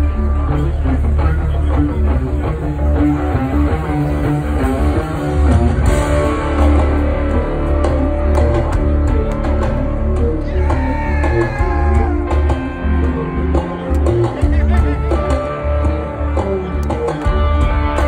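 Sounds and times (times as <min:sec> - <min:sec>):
electric guitar: 0:00.0 - 0:18.0
heavy bass: 0:00.0 - 0:18.0.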